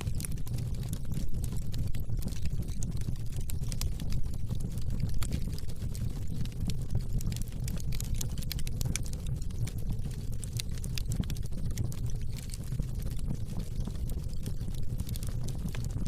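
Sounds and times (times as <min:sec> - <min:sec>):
log fire crackling snaps: 0:00.0 - 0:16.0
low rumble of flames: 0:00.0 - 0:16.0.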